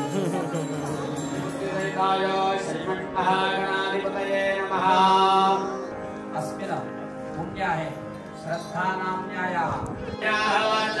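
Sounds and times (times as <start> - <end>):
music with long sung notes: 0.0 - 11.0.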